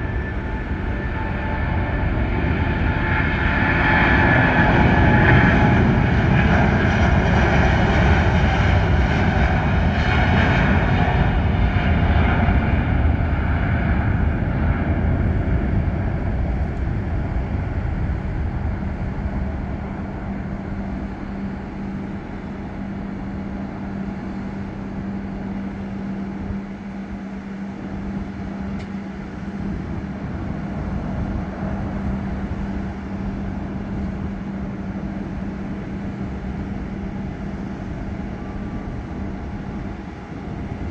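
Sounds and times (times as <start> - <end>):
jet airliner taking off: 0.0 - 40.9
steady low hum: 0.0 - 40.9.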